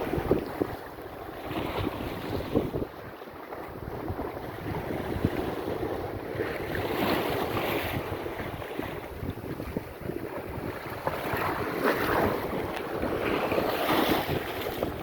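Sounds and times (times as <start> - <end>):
sea waves rushing: 0.0 - 15.0
wind gusting across microphone: 0.0 - 15.0.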